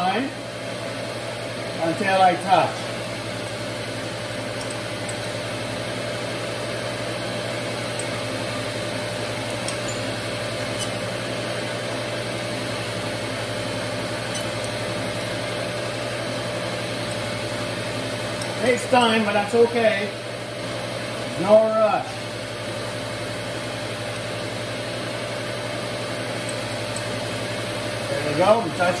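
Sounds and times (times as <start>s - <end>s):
grinder motor humming: 1.0s - 21.4s, 22.1s - 29.0s.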